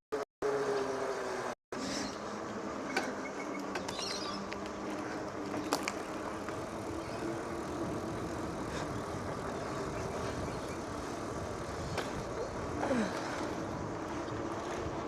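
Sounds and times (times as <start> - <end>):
bicycle road and wind noise: 0.4 - 15.0.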